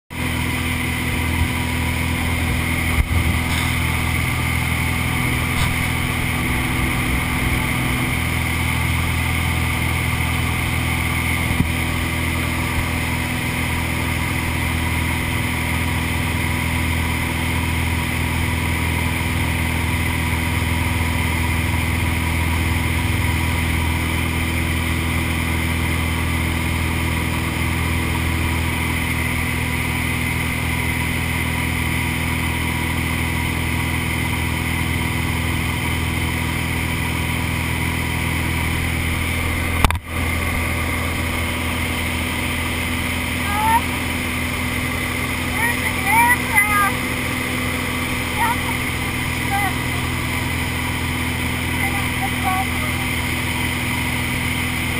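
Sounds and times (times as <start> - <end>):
small aircraft engine droning: 0.1 - 54.9.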